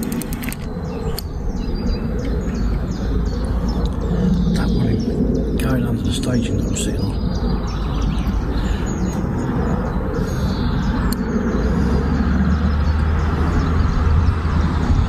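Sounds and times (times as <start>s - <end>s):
low rumbling outdoor noise: 0.0s - 15.0s.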